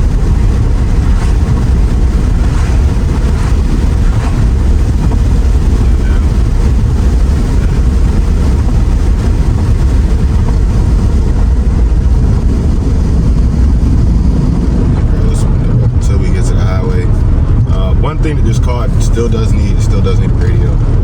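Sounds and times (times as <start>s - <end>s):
car road and wind rumble: 0.0s - 21.0s.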